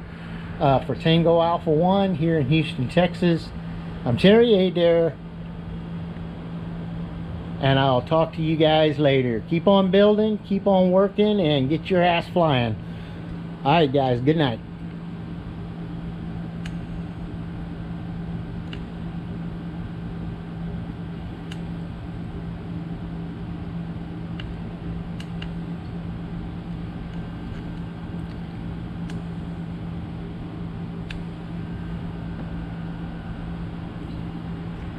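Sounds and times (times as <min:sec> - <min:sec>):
electric fan humming: 0:00.0 - 0:34.9.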